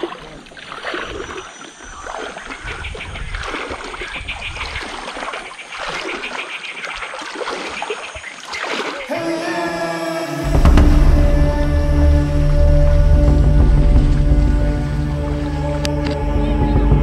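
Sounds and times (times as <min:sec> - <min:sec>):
floodwater sloshing around wading legs: 0:00.0 - 0:16.7.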